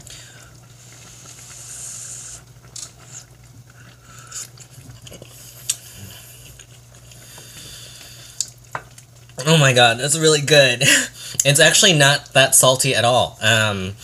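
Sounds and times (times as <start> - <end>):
sauce simmering hiss: 0.0 - 14.0
steady low hum: 0.0 - 14.0.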